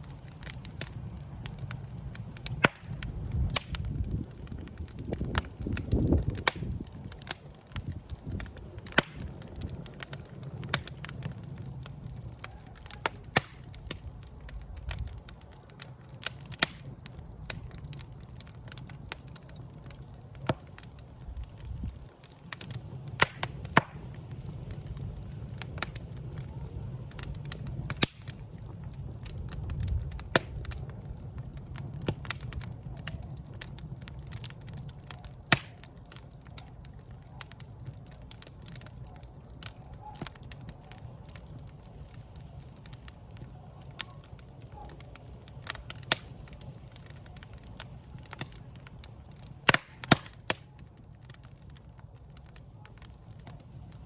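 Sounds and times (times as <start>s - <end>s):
low rumble of burning: 0.0s - 54.0s
wood fire crackling: 0.0s - 54.0s.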